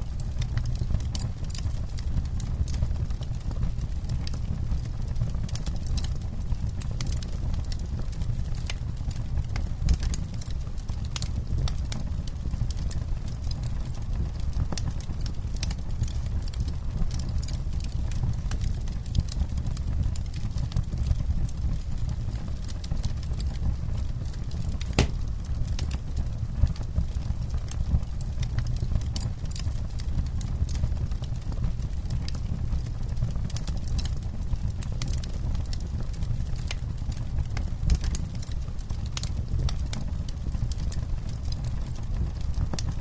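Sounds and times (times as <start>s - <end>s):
campfire crackling and popping: 0.0s - 43.0s
low rumble of flames: 0.0s - 43.0s.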